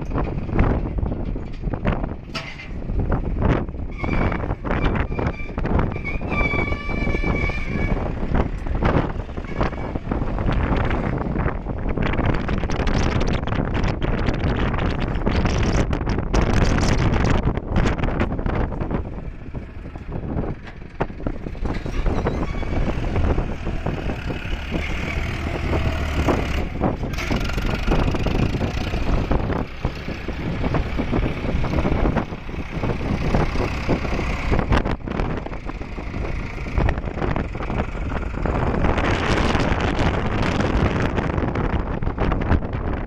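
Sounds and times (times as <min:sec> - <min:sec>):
tractor diesel engine running hard: 0:00.0 - 0:43.0.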